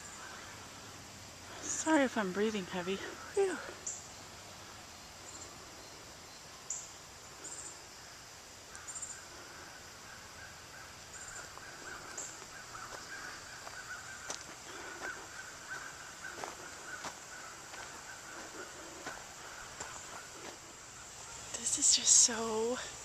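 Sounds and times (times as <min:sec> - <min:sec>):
lower rapid bird calls: 0:00.0 - 0:23.0.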